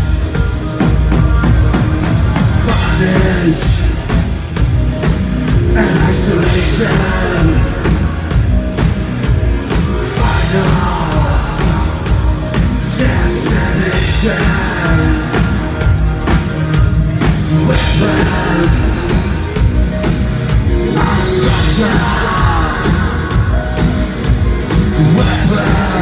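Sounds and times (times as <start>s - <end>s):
driving drum beat: 0.0s - 26.0s
electro-industrial band playing: 0.0s - 26.0s.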